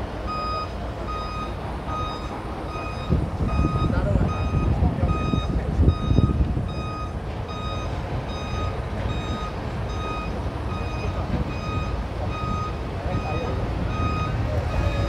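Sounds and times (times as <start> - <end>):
heavy truck rumbling past: 0.0 - 15.0
vehicle warning beeper: 0.3 - 15.0.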